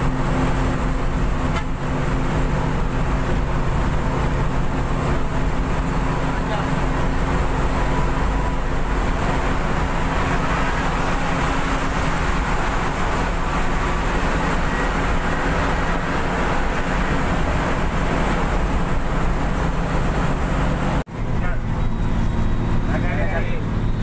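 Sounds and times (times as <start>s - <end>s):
bus engine and road drone: 0.0s - 24.0s.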